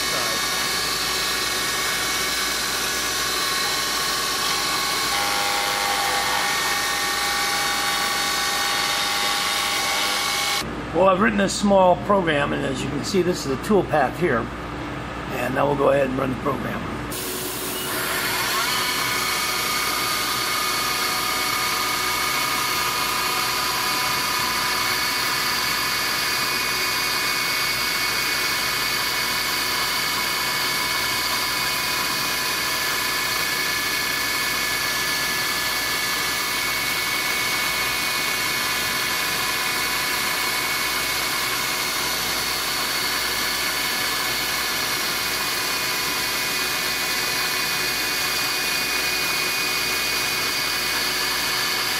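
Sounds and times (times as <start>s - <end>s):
milling machine spindle whine: 0.0s - 10.7s, 17.6s - 51.9s.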